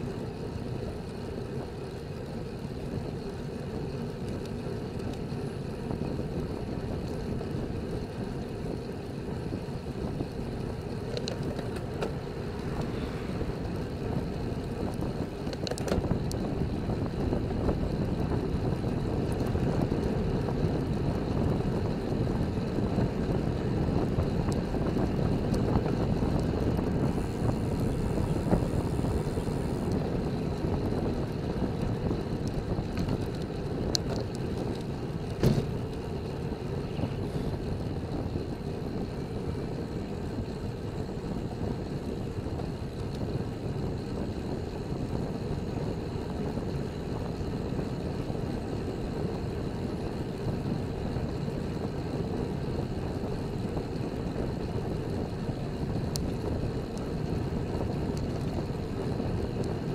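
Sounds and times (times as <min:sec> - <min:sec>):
bike tyres rolling on asphalt: 0:00.0 - 0:59.9
wind buffeting microphone: 0:05.7 - 0:59.9.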